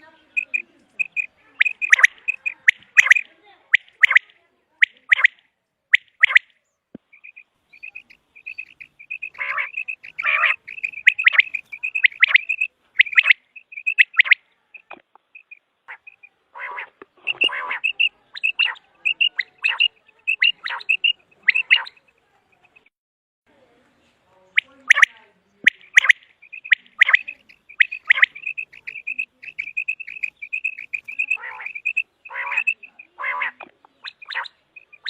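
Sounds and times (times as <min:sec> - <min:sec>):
quail calling: 0:00.0 - 0:06.5, 0:07.2 - 0:22.9, 0:24.5 - 0:35.0.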